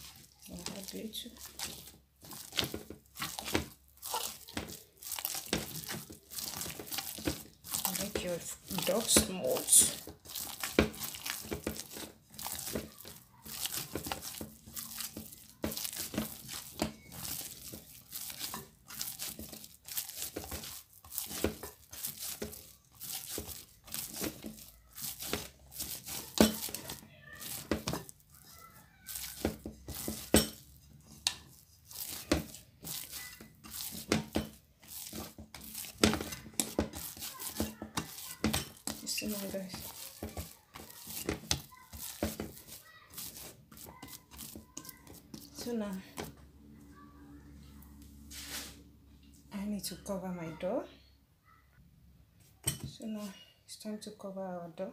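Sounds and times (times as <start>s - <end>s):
hands kneading sticky dough: 0.0s - 50.6s.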